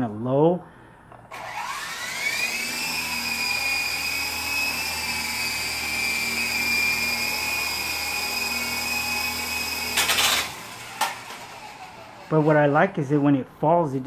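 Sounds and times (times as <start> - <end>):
toy helicopter motor whining: 1.3 - 12.9.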